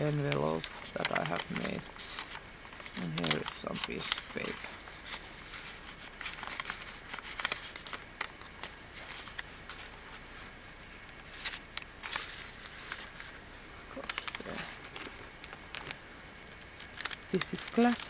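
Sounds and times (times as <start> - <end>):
paper rustling and crinkling: 0.0 - 16.0, 16.6 - 18.0.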